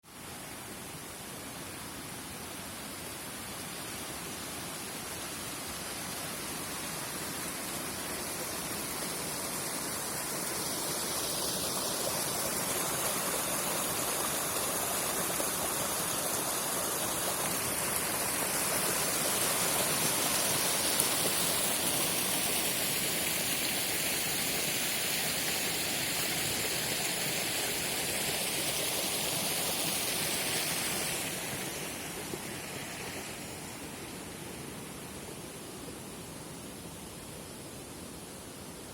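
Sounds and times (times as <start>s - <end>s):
spring water rushing: 0.1s - 38.9s.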